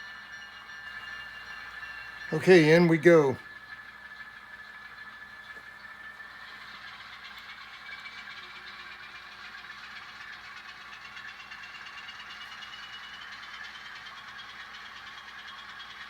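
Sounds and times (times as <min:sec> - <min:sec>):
model locomotive hum and whine: 0:00.0 - 0:16.0.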